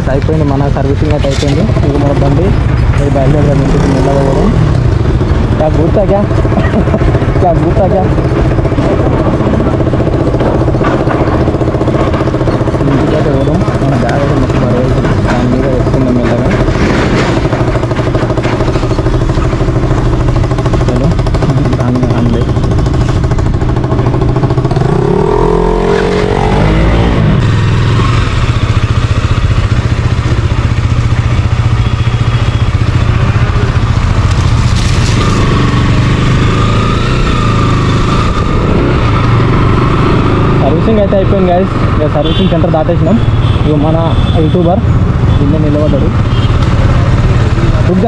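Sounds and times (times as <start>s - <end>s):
motorcycle engine revving: 0.0s - 48.0s
motorcycle riding off: 0.0s - 48.0s.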